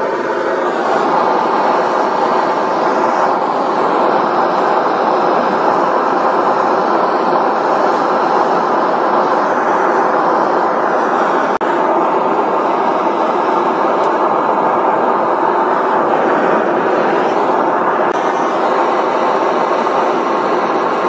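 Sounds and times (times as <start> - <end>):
propane burner roaring: 0.0 - 21.0.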